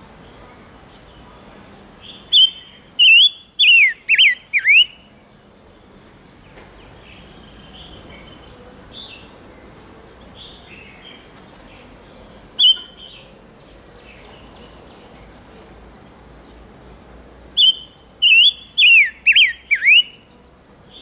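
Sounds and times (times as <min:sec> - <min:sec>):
soft bird chirps: 0:00.0 - 0:21.0.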